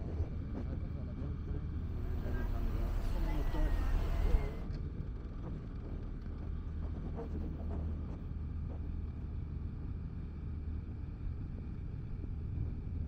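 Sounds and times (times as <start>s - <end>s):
railway platform low rumble: 0.0s - 13.0s.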